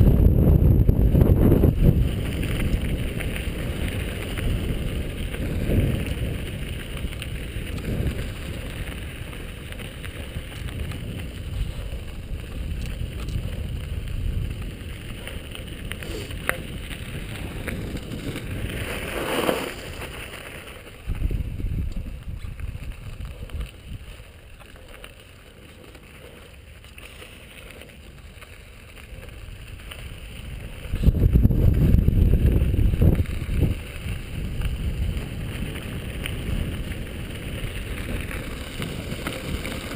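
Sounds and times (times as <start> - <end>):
wind rushing over microphone: 0.0 - 25.0, 29.0 - 39.9
bike tyres rolling on gravel: 0.0 - 39.9.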